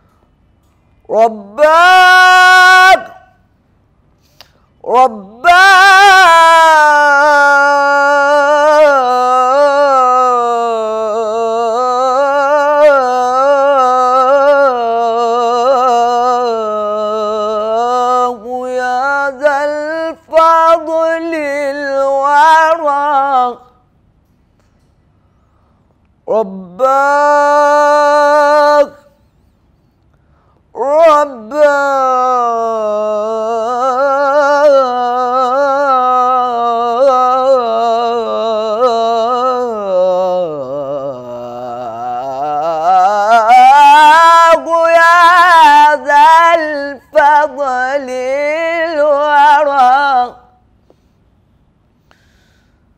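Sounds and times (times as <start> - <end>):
man chanting solo: 1.1 - 3.4, 4.8 - 23.7, 26.3 - 29.0, 30.8 - 50.6.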